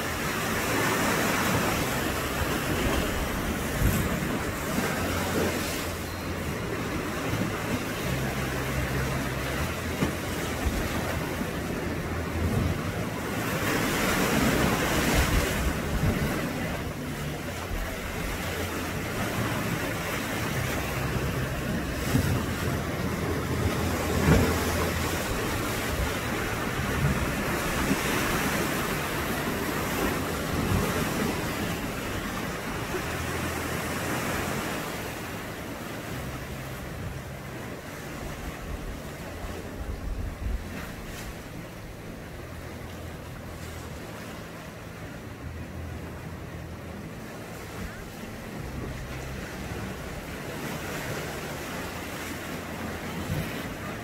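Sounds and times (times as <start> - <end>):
sea waves washing over rocks: 0.0 - 54.0.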